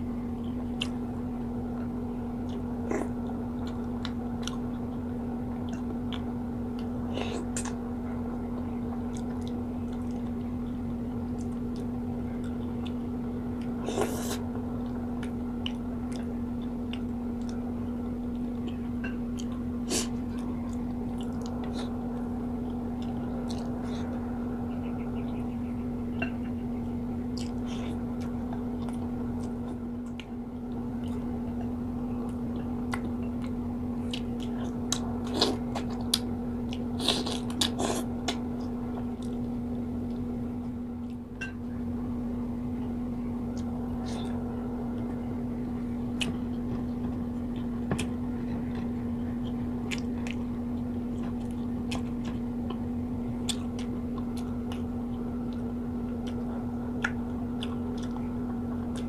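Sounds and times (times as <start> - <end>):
steady low hum: 0.0 - 59.0
person chewing: 0.7 - 1.0, 1.7 - 7.8, 8.6 - 24.2, 27.3 - 41.2, 43.5 - 45.1, 46.0 - 59.0.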